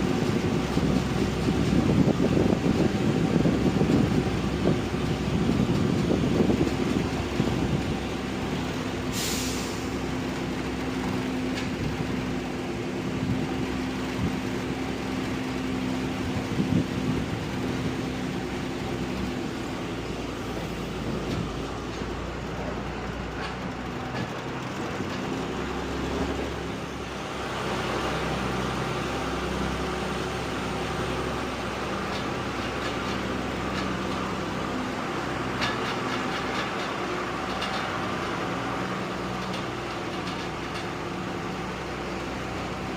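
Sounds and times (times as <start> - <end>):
road noise: 0.0 - 42.9
truck engine running: 0.0 - 42.9.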